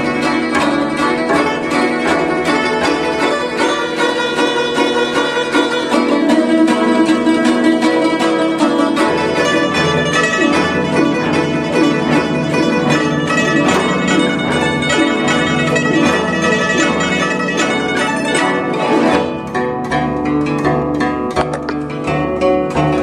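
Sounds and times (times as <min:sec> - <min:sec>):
guzheng plucked notes: 0:00.0 - 0:23.0.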